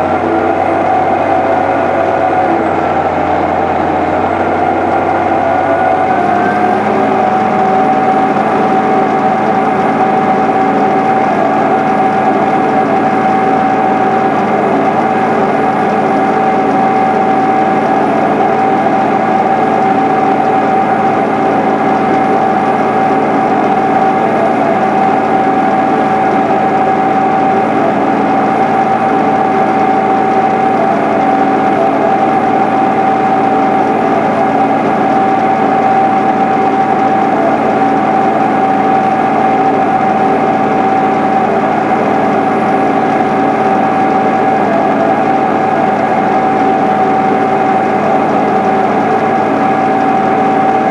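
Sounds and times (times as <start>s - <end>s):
steady whine: 0.0s - 50.9s
tractor diesel engine under load: 0.0s - 50.9s.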